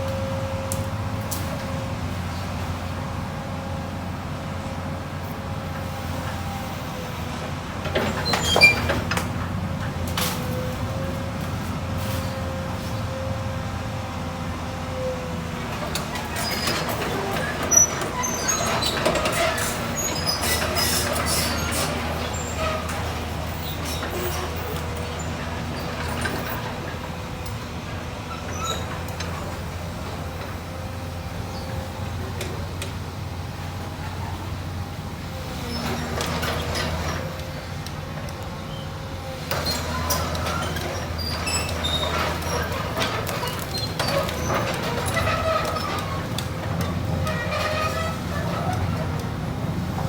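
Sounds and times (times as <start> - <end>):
excavator engine drone: 0.0 - 50.0.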